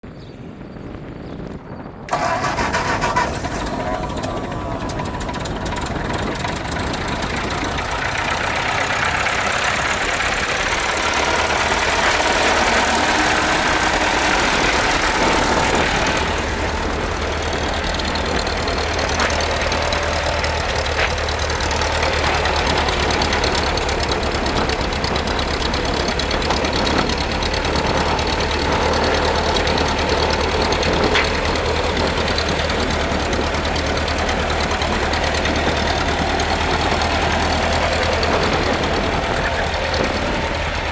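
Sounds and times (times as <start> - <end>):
tractor engine running: 2.1 - 40.9.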